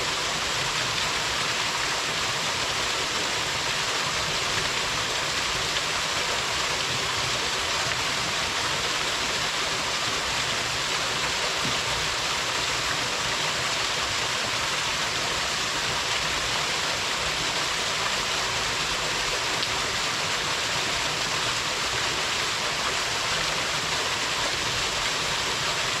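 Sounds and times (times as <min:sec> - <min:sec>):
waterfall splashing: 0:00.0 - 0:26.0.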